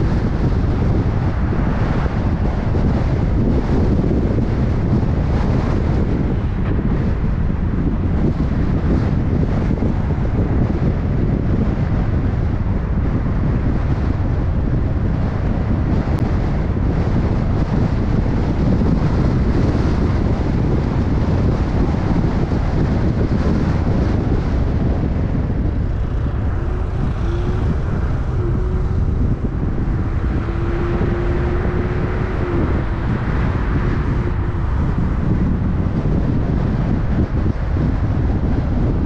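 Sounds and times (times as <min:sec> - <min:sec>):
tyres and engine rumbling: 0:00.0 - 0:39.0
wind buffeting microphone: 0:00.0 - 0:39.0.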